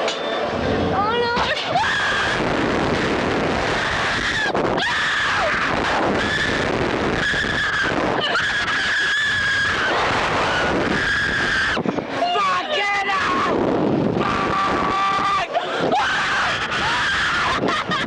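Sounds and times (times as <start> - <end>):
wind rushing on microphone: 0.5 - 18.0
boys screaming: 1.5 - 2.5, 3.6 - 13.6, 14.2 - 18.0.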